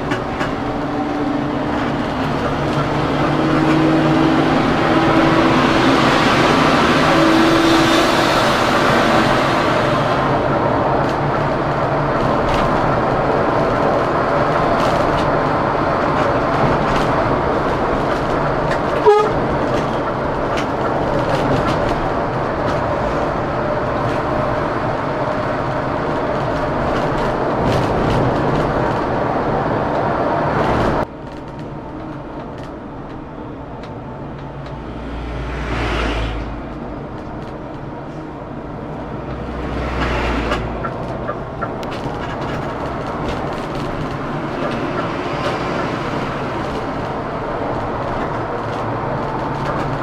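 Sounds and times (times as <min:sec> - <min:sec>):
coach engine and road noise: 0:00.0 - 0:50.0.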